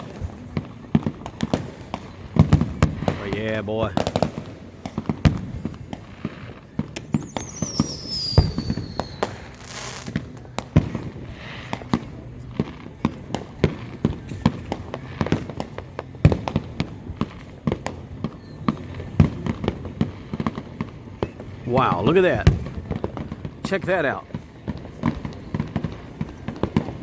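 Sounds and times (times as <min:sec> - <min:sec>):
fireworks bangs and crackling: 0:00.0 - 0:27.0
falling firework whistle: 0:04.0 - 0:12.2, 0:12.8 - 0:27.0.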